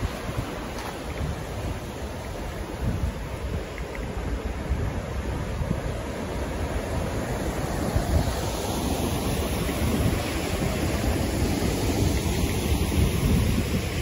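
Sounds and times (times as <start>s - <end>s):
river water over a weir: 0.0s - 14.0s
wind buffeting microphone: 0.0s - 14.0s.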